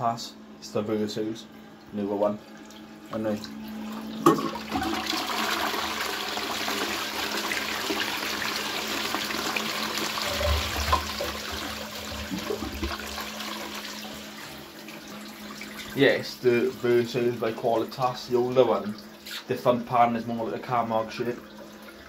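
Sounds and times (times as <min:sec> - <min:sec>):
toilet flush water rushing: 0:03.7 - 0:22.0.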